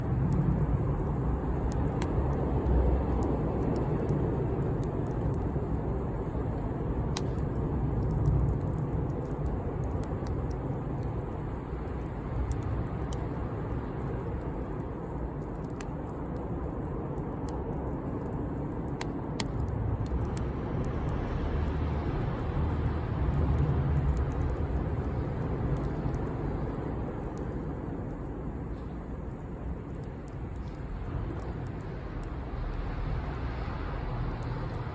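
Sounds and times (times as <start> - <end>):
fire crackling and popping: 0.0 - 34.9
low fire rumble: 0.0 - 34.9.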